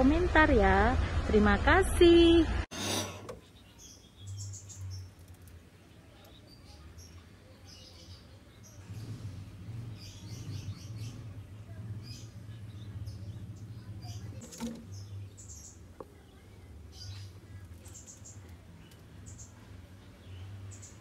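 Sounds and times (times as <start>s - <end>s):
birds chirping: 2.8s - 21.0s.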